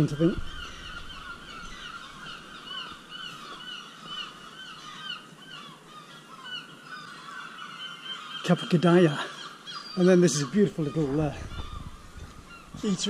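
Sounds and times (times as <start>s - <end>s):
bird calling high notes: 0.0s - 13.0s.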